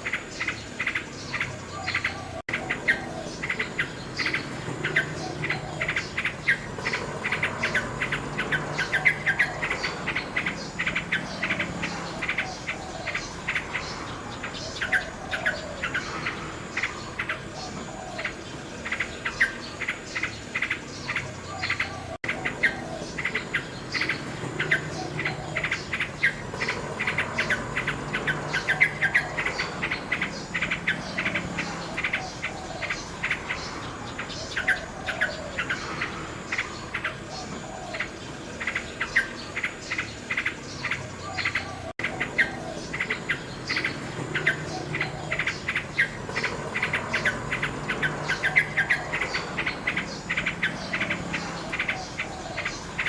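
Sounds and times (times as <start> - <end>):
nightingale singing: 0.0 - 53.0
steady high background tone: 0.0 - 53.0.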